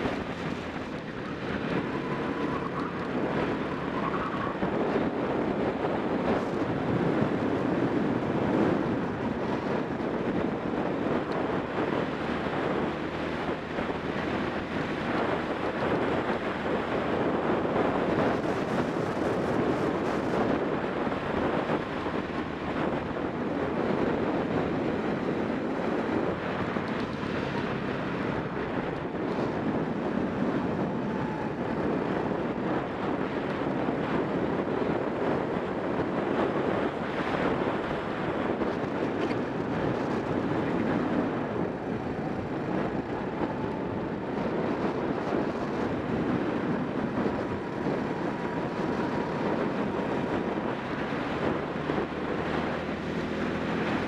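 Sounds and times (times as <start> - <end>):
kart engine running: 0.0 - 54.0
wind buffeting microphone: 0.0 - 54.0.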